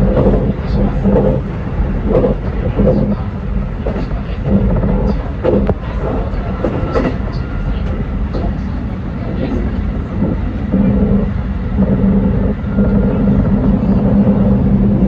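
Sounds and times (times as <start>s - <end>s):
steady hum: 0.0s - 15.0s
train rumbling on rails: 0.0s - 15.0s.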